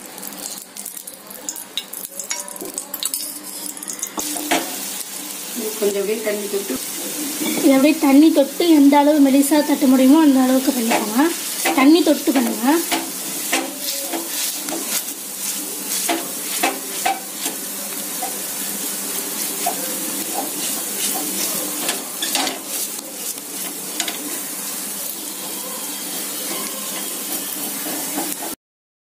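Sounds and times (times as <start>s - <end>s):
ghee sizzling on griddle: 0.0s - 28.6s.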